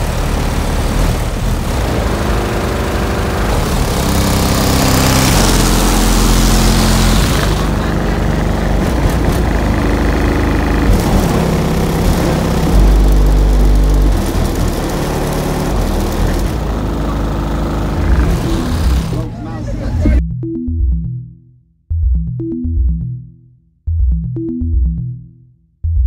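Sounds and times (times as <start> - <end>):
loud deep bass notes from subwoofers: 0.0 - 26.0.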